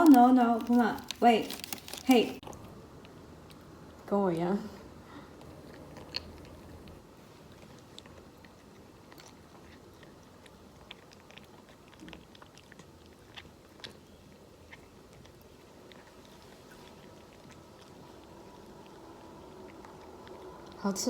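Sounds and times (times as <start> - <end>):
cat crunching dry food: 0.0 - 2.6, 5.4 - 20.8.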